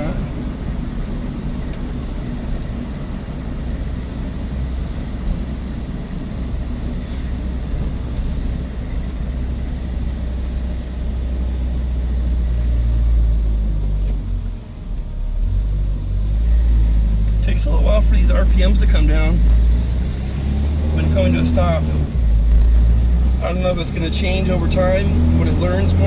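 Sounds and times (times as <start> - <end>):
low road rumble: 0.0 - 26.0
pickup engine running: 0.0 - 26.0.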